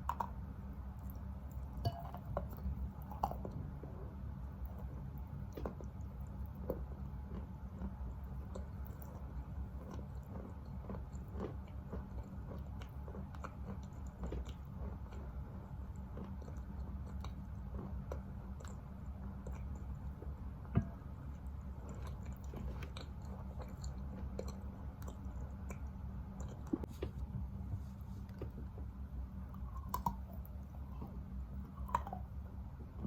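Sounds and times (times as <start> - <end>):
person chewing chalk: 0.0 - 20.4, 21.2 - 27.0, 28.1 - 32.4.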